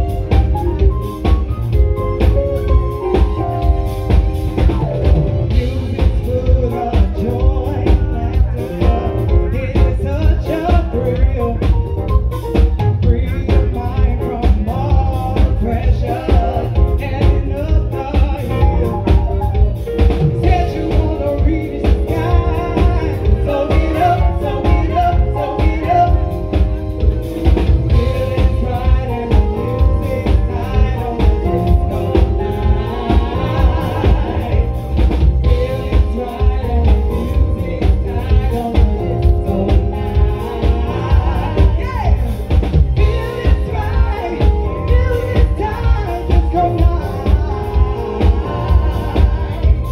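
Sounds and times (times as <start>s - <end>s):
drum-kit beat: 0.0s - 49.9s
keyboard: 0.0s - 49.9s.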